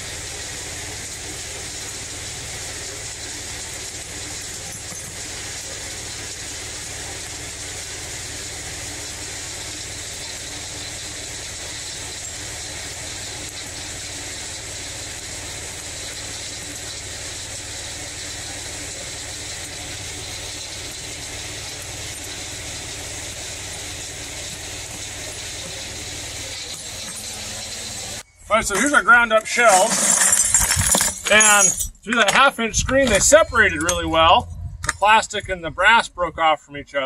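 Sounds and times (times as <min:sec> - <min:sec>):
hammer mill drone: 0:00.0 - 0:36.8.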